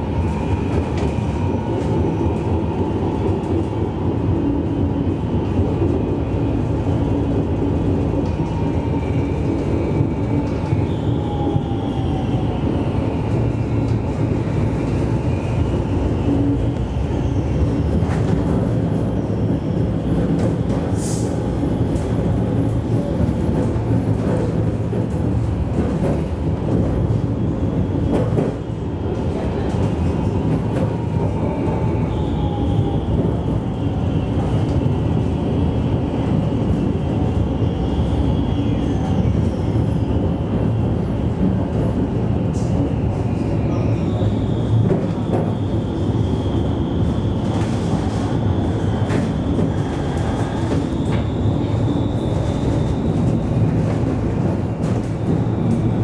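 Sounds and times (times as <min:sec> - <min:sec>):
tram wheels rumbling on rail: 0:00.0 - 0:56.0.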